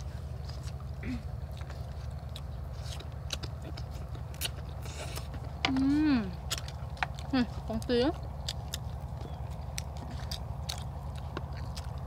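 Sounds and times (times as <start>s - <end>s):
people chewing and slurping noodles: 0.0s - 12.0s
steady low hum: 0.0s - 12.0s.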